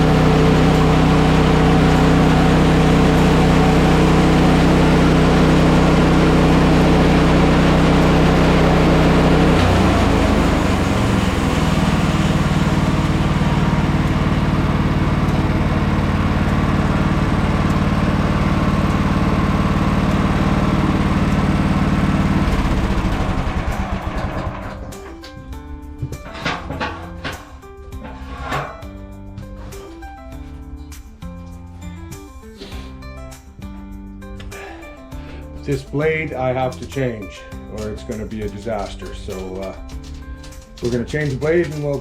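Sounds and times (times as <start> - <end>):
sawmill engine running: 0.0 - 28.8, 35.4 - 42.0.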